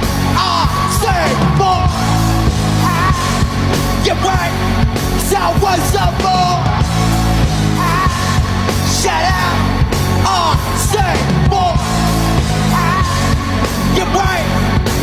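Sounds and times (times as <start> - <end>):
person singing over rock backing: 0.0 - 15.0.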